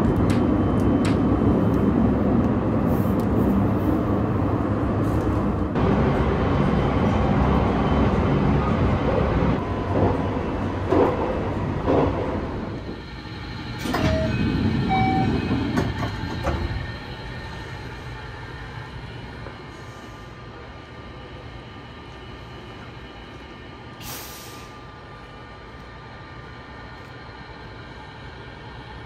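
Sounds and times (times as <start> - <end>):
train rumble inside carriage: 0.0 - 29.0.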